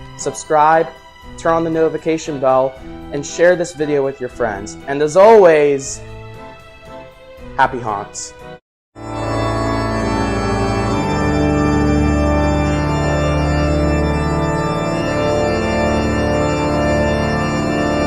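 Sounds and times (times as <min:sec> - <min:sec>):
organ-like chords over bass: 0:00.0 - 0:18.0.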